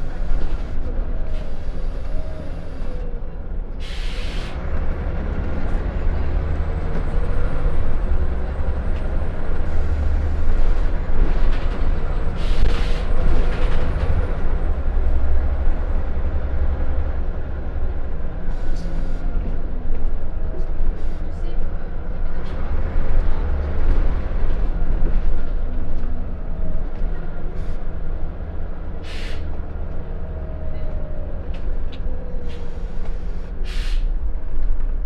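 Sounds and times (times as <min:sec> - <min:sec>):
bus engine and road rumble: 0:00.0 - 0:35.0.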